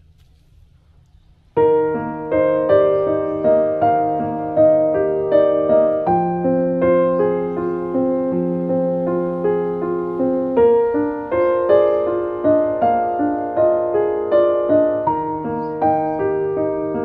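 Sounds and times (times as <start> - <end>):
piano music: 1.6 - 17.0.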